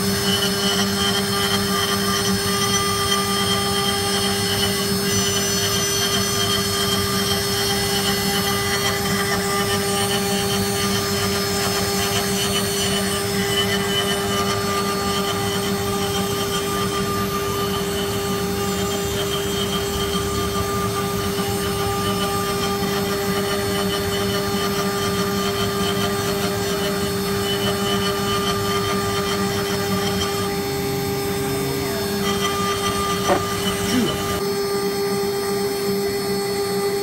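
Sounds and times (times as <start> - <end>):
bit rasping through wood: 0.0 - 34.4
router spindle whine: 0.0 - 37.0.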